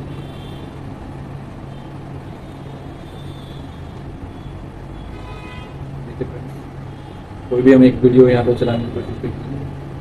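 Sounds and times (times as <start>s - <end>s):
constant low hum: 0.0s - 10.0s.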